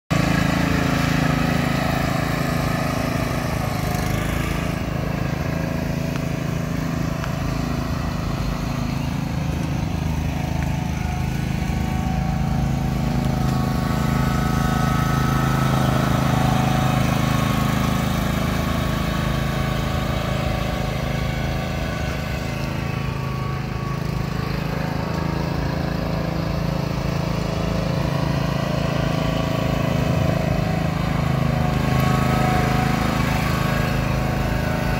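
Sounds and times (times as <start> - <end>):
small cart engine running: 0.1 - 34.9.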